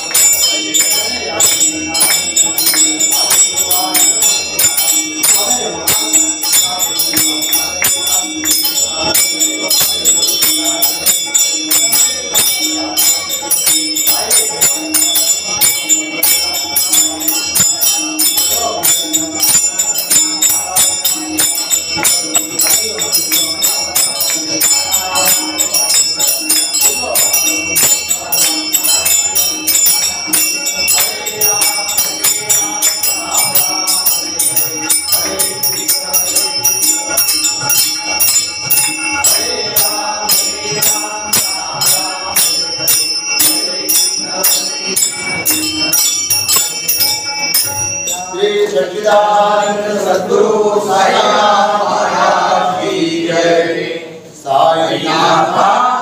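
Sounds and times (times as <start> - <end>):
small hand cymbals beat: 0.0 - 55.8
congregation singing: 0.0 - 56.0.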